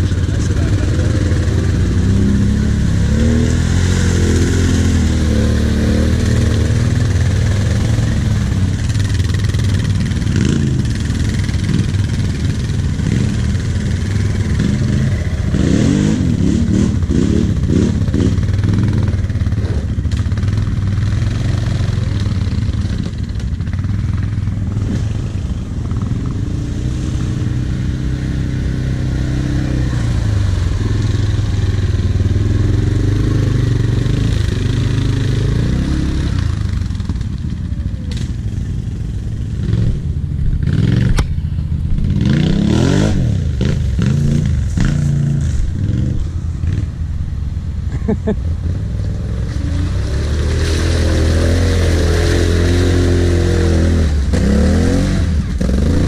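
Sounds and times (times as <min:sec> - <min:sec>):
engine revving: 0:00.0 - 0:23.4, 0:24.3 - 0:37.3, 0:39.4 - 0:47.0, 0:48.7 - 0:56.0
quad bike engines running: 0:00.0 - 0:56.0.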